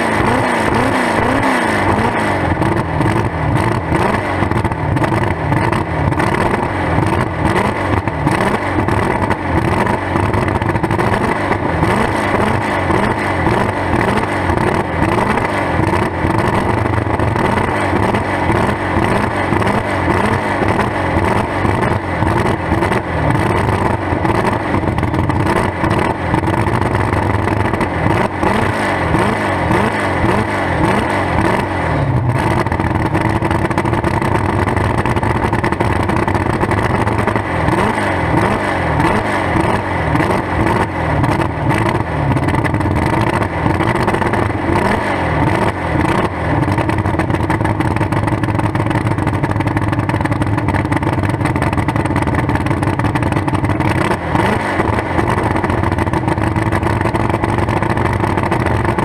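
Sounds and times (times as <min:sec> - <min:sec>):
car engine revving loud: 0:00.0 - 0:49.1, 0:50.3 - 0:59.0.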